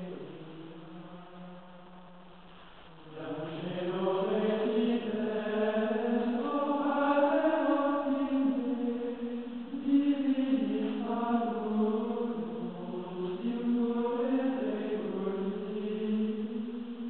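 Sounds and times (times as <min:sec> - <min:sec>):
voices chanting slow melody: 0:00.0 - 0:17.0.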